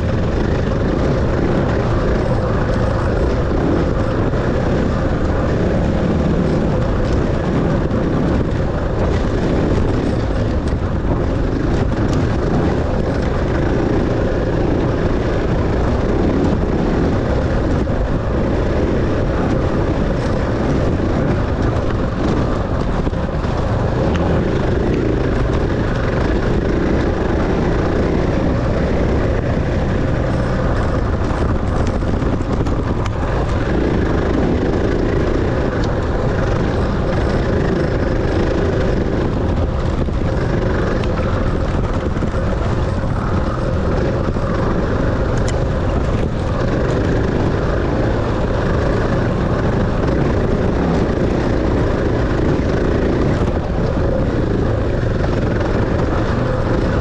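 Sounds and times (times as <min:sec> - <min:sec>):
dirt bike engine droning: 0:00.0 - 0:57.0.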